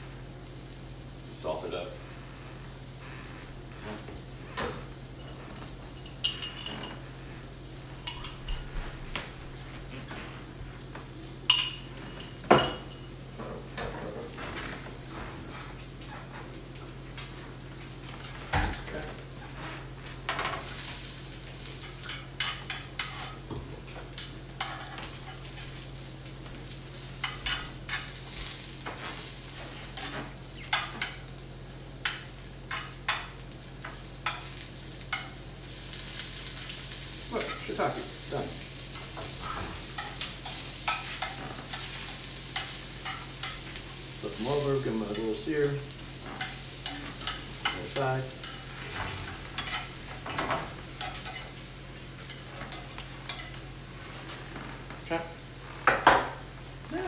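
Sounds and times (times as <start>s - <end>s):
mushrooms sizzling in skillet: 0.0s - 57.0s.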